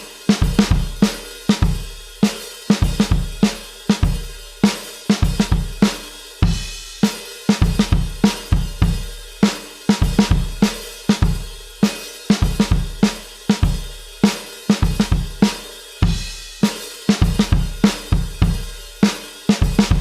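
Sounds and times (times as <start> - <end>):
drum kit playing rock beat: 0.0 - 20.0.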